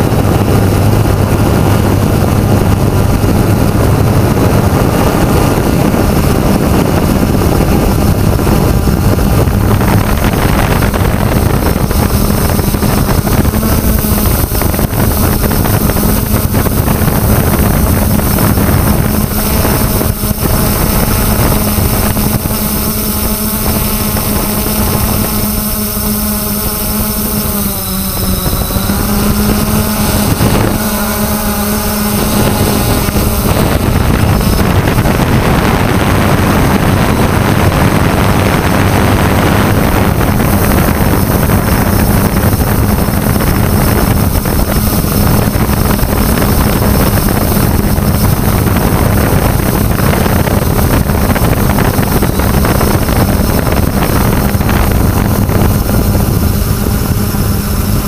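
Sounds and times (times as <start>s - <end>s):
drone propellers humming: 0.0s - 58.0s
wind rushing on microphone: 0.0s - 58.0s.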